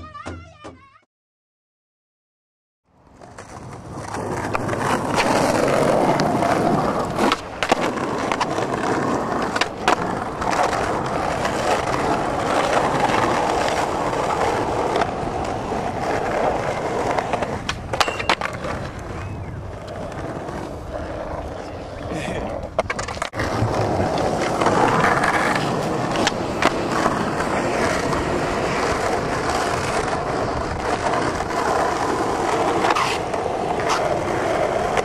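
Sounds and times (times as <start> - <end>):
skateboard wheels rolling on pavement: 2.9 - 35.0
skateboard clacking on ground: 3.1 - 35.0.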